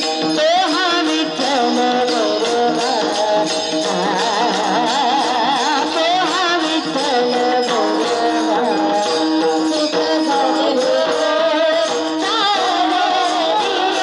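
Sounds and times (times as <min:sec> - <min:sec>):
jingling percussion: 0:00.0 - 0:14.0
wavering devotional melody: 0:00.0 - 0:14.0.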